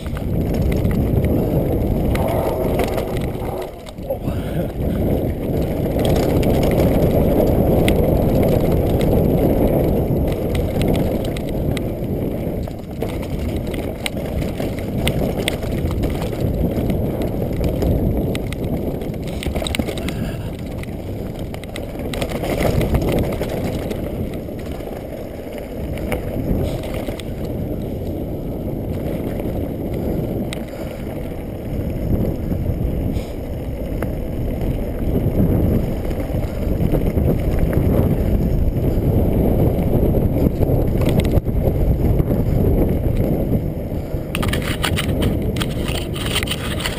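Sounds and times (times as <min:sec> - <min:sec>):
bike rattling over bumps: 0:00.0 - 0:46.9
tyres rumbling on dirt trail: 0:00.0 - 0:46.9
wind on microphone: 0:00.0 - 0:46.9.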